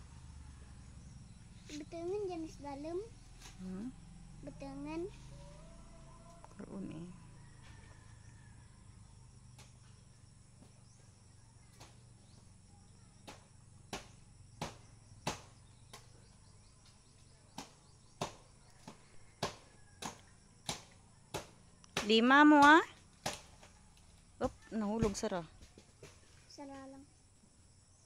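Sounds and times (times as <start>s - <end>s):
faint insect drone: 0.0s - 28.0s.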